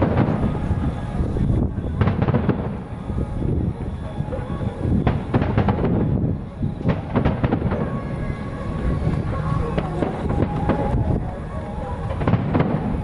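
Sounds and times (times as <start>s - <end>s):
low rumble of booms: 0.0s - 11.5s, 12.1s - 13.0s
rapid crackling reports: 0.0s - 13.0s.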